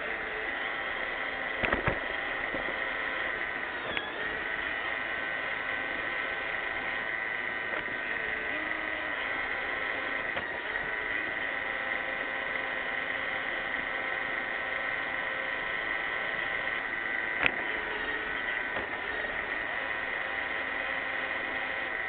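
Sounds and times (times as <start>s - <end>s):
robot vacuum running: 0.0s - 22.0s.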